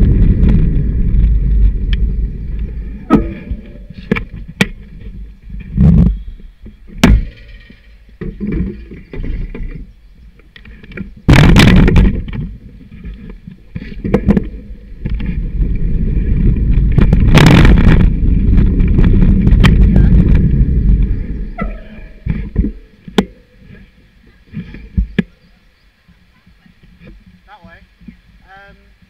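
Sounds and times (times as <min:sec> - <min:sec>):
wind and road rumble: 0:00.0 - 0:29.0.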